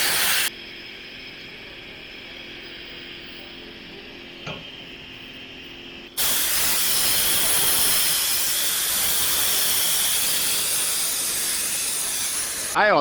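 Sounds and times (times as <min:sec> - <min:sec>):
welding torch hissing: 0:00.0 - 0:13.0.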